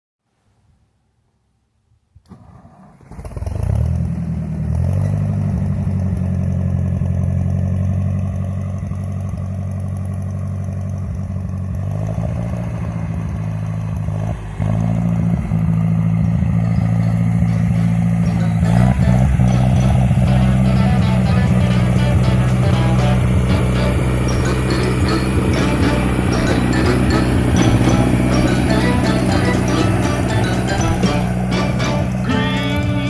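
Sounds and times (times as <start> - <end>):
tractor engine running: 3.1 - 33.0.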